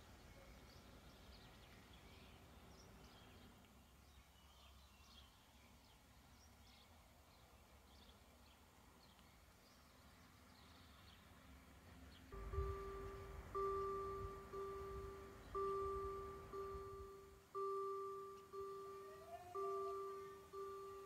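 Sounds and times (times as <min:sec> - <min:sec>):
faint birds chirping: 0:00.0 - 0:21.0
low steady background hum: 0:00.0 - 0:21.0.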